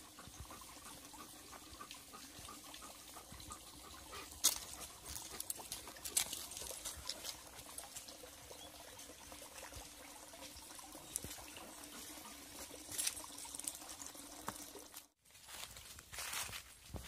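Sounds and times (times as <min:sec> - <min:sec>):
water trickling: 0:00.0 - 0:15.2.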